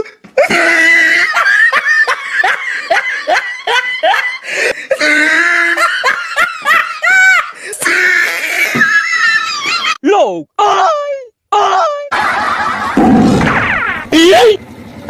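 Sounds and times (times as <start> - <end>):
person laughing hard: 0.0 - 10.0, 12.0 - 14.3.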